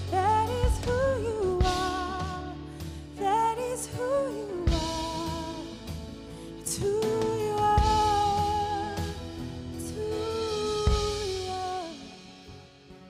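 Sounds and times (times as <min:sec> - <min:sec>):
woman singing: 0:00.0 - 0:12.6
drum kit: 0:00.0 - 0:13.0.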